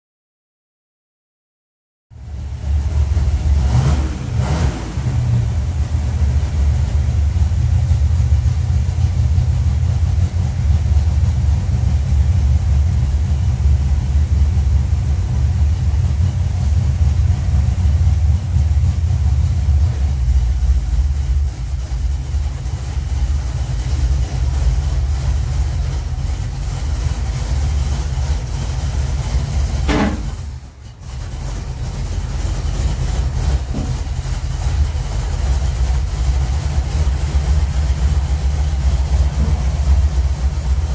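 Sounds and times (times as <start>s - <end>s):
pickup truck engine idling: 2.2s - 40.9s.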